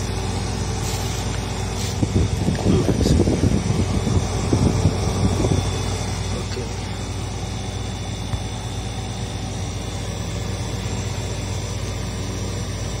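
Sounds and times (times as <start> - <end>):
refrigerator compressor humming: 0.0 - 13.0.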